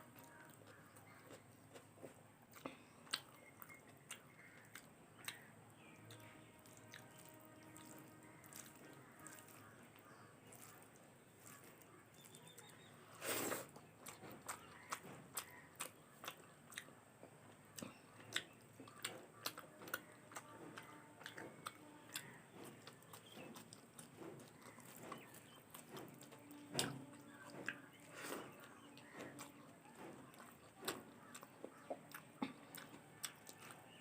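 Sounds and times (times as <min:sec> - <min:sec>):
mouth clicks and smacks chewing: 0:00.2 - 0:34.0.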